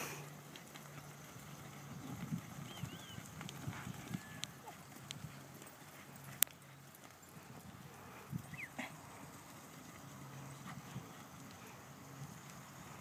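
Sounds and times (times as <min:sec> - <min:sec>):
cattle hooves trampling dry dirt: 0:00.0 - 0:13.0.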